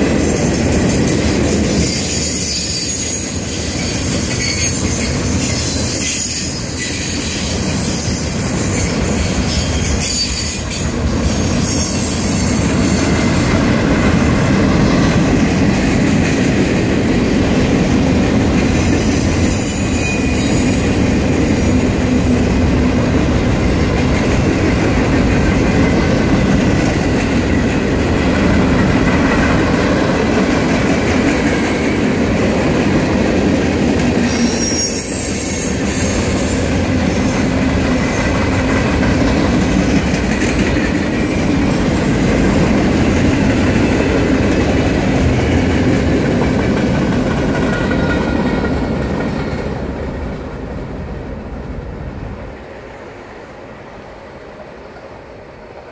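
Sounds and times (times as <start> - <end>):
train wheels rumbling on track: 0.0 - 55.9.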